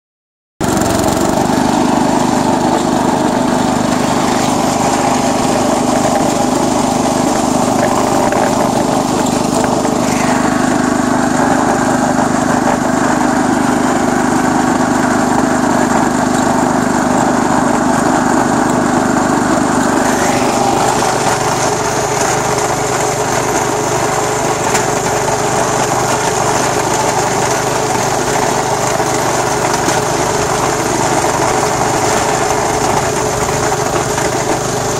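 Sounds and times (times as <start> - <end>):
small tractor engine running: 0.6 - 34.9.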